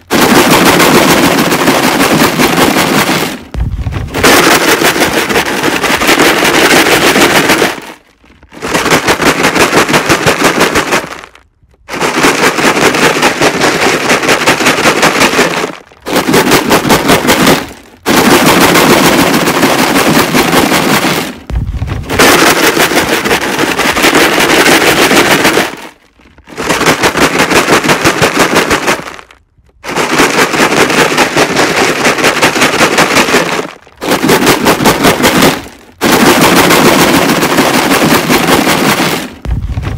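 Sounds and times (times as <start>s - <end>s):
rocks rattling in plastic jug: 0.0s - 39.9s.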